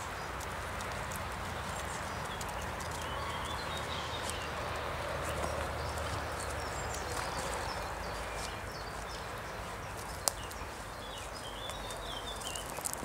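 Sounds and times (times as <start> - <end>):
footsteps on wood chips: 0.0 - 13.0
birds chirping and singing: 1.4 - 13.0.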